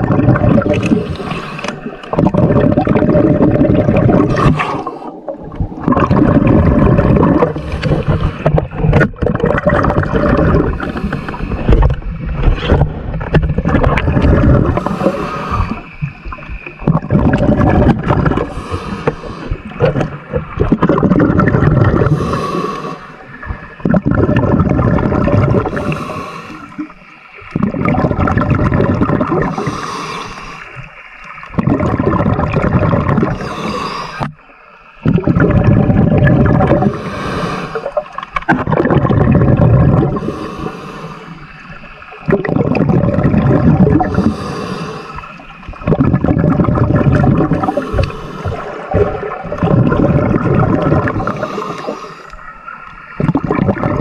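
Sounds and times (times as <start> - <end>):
underwater rumbling and gurgling: 0.0 - 54.0.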